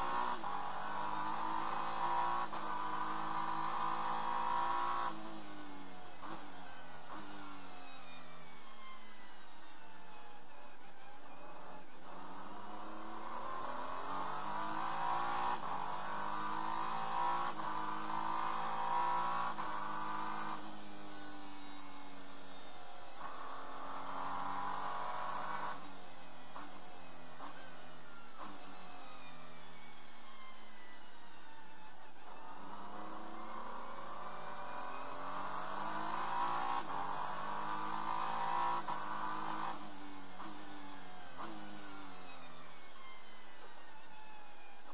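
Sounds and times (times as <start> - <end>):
race car engine accelerating hard: 0.0 - 10.3, 10.9 - 44.9.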